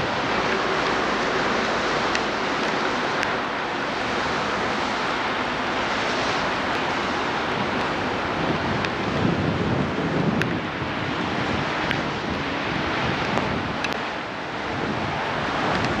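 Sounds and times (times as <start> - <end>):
distant diesel locomotive running: 0.0 - 16.0
wind hiss on microphone: 0.0 - 16.0.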